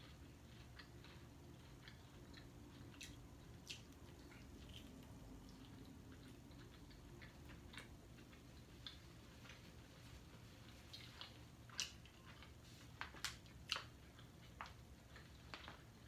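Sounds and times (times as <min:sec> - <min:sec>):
low background hum: 0:00.0 - 0:16.0
person chewing food: 0:00.0 - 0:16.0.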